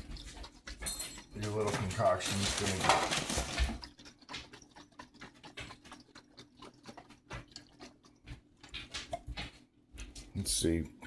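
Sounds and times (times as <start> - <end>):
faint liquid sounds: 0.0 - 11.0.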